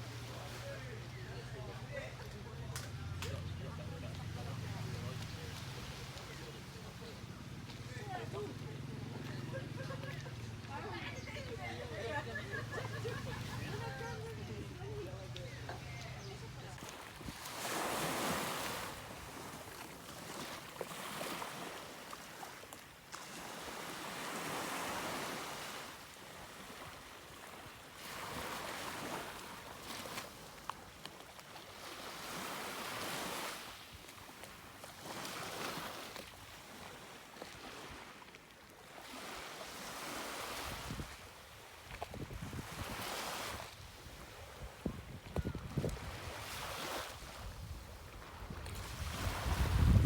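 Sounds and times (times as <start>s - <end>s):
sea waves breaking on beach: 0.0s - 50.0s.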